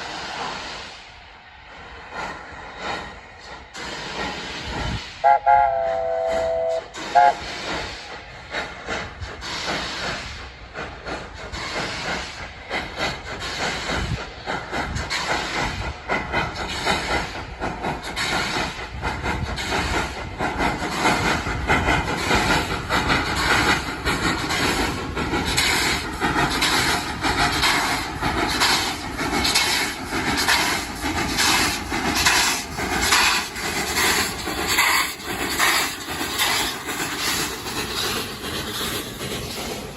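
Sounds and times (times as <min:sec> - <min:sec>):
hissing steam: 0:00.0 - 0:39.9
steam locomotive running: 0:00.0 - 0:39.9.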